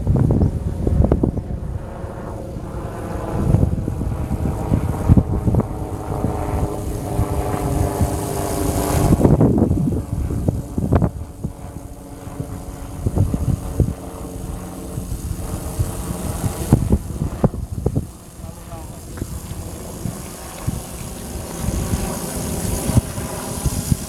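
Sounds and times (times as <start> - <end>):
rc helicopter motor humming: 0.0 - 24.0
wind buffeting microphone: 0.0 - 24.0.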